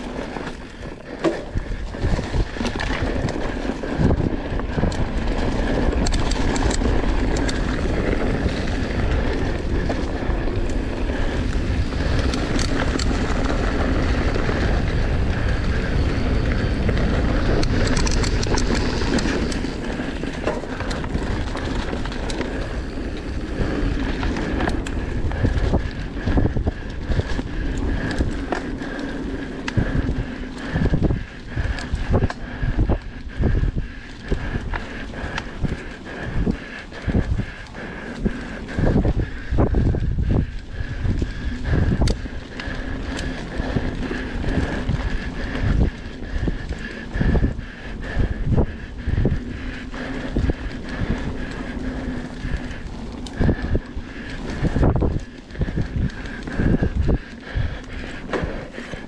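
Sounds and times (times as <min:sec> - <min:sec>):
tyres rolling over leaves and dirt: 0:00.0 - 0:32.9, 0:34.0 - 0:47.3, 0:48.4 - 0:59.0
bike knocking and rattling: 0:00.0 - 0:59.0
wind rushing over microphone: 0:00.0 - 0:59.0.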